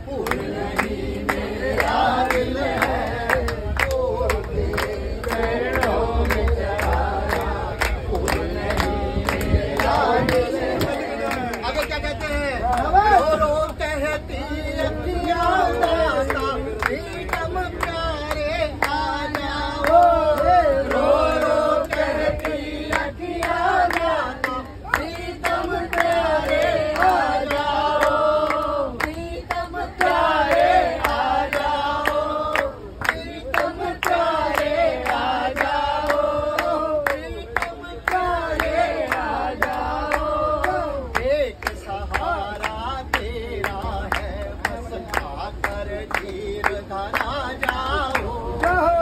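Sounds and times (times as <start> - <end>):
group singing: 0.0 - 11.7, 12.8 - 49.0
man singing devotional song: 0.0 - 49.0
hands clapping in time: 0.1 - 13.9, 15.2 - 49.0.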